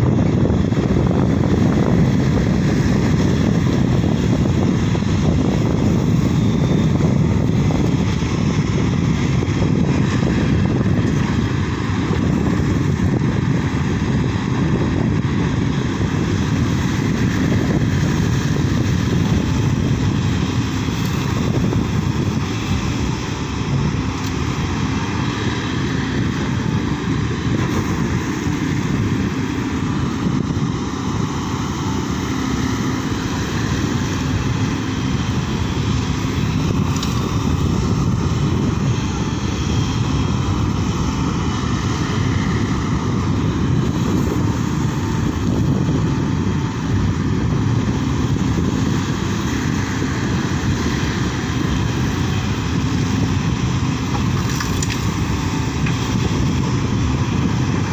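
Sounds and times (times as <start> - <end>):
excavator diesel engine rumble: 0.0 - 57.9.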